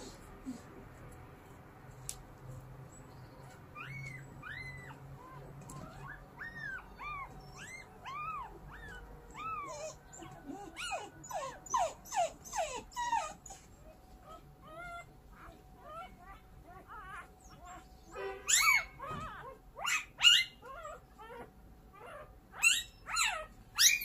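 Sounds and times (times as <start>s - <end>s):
puppy whimpering and squealing: 3.2s - 24.0s.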